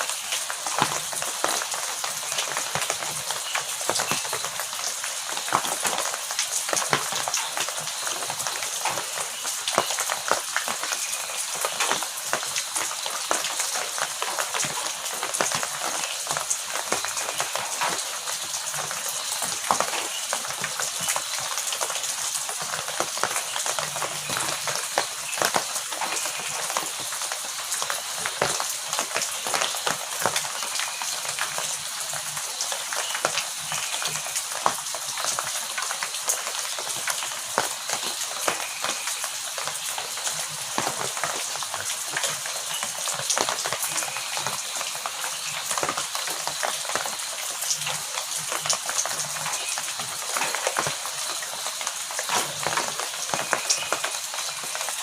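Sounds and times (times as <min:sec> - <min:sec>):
heavy rain on hard surface: 0:00.0 - 0:55.0.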